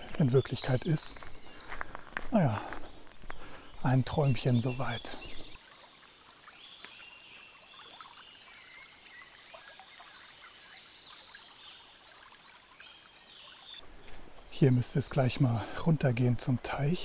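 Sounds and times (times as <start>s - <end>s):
faint trickle of brook: 0.0s - 17.0s
songbirds chirping and trilling: 0.0s - 17.0s.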